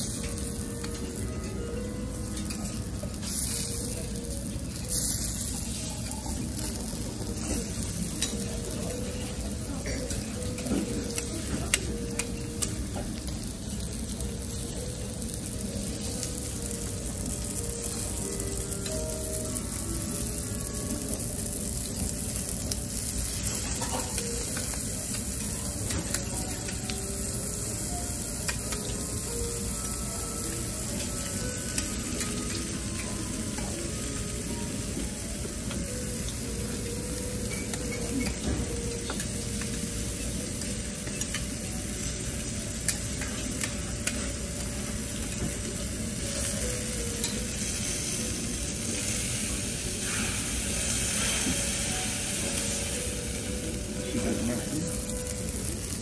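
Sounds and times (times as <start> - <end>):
food sizzling on a griddle: 0.0 - 56.0.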